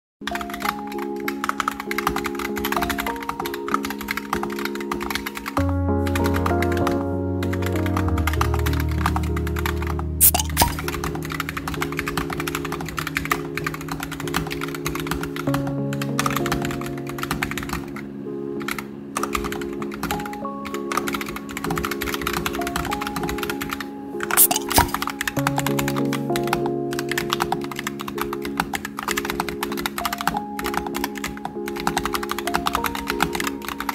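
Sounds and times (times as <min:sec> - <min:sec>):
background music: 0:00.2 - 0:33.9
mechanical keyboard typing: 0:00.2 - 0:33.9.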